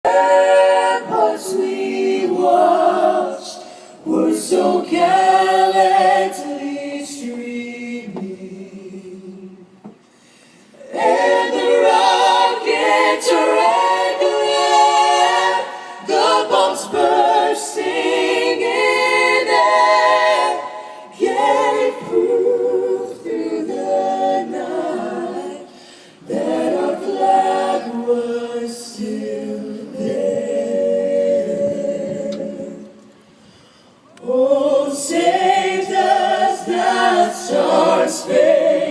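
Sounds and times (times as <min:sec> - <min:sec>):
a cappella voices singing: 0:00.0 - 0:38.9.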